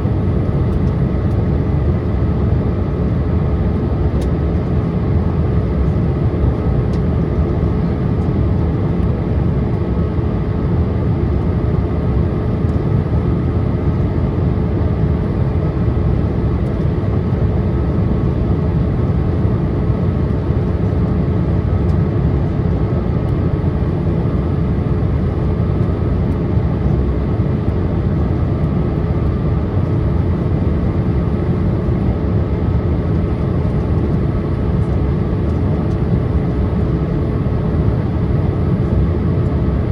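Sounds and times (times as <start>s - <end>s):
airliner cabin engine and airflow rush: 0.0s - 39.9s.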